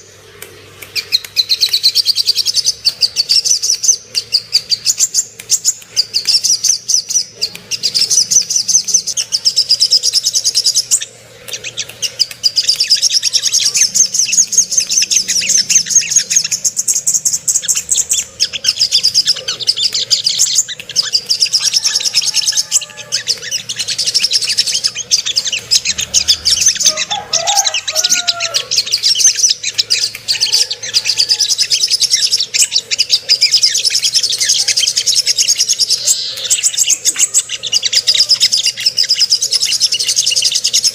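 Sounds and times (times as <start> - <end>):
bird song of rapid high chirps: 0.0 - 40.9.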